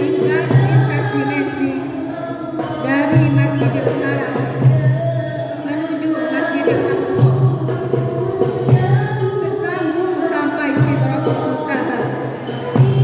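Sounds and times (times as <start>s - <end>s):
percussion: 0.0s - 13.0s
voices singing devotional song: 0.0s - 13.0s.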